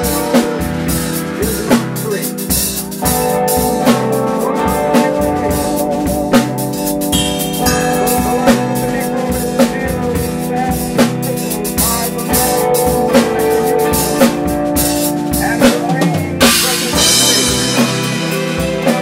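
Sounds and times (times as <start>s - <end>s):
bass guitar: 0.0s - 19.0s
drum kit with snare hits: 0.0s - 19.0s.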